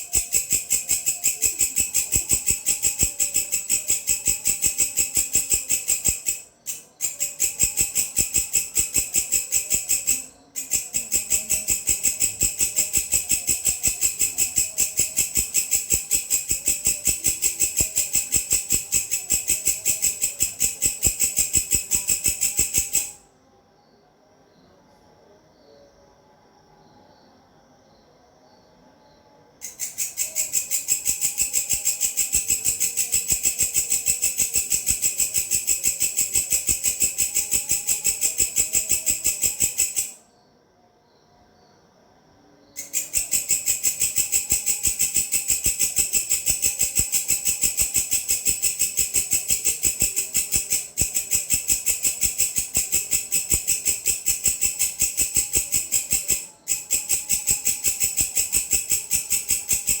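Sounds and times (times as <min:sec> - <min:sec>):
grasshopper stridulating: 0:00.0 - 0:23.2, 0:29.6 - 0:40.2, 0:42.8 - 1:00.0.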